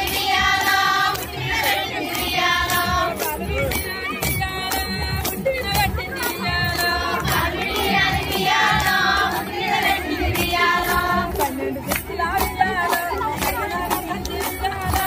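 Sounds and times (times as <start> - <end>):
hand claps: 0.0 - 15.0
women singing folk song: 0.0 - 15.0.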